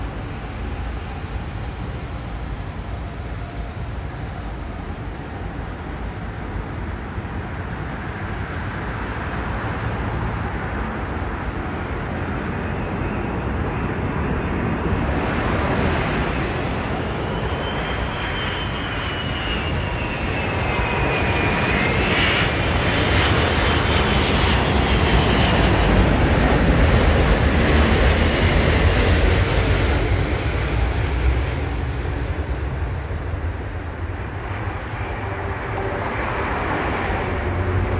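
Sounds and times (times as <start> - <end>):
high engine whine: 0.0 - 37.9
jet engines rumbling: 0.0 - 37.9.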